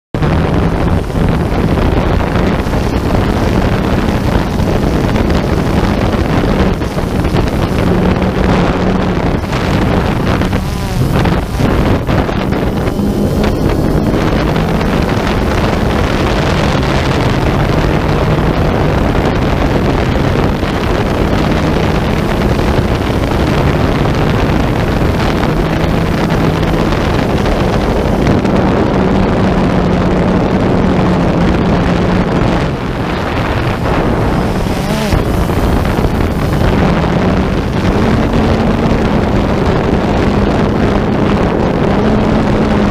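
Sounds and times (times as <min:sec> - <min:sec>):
wind noise on microphone: 0:00.1 - 0:42.9
motor humming: 0:00.2 - 0:28.7, 0:31.9 - 0:40.1.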